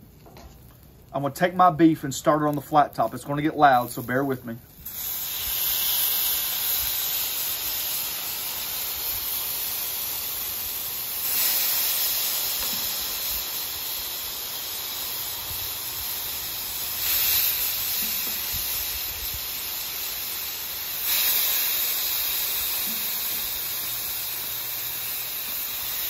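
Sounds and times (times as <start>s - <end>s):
beef sizzling on hot griddle: 2.1s - 26.0s.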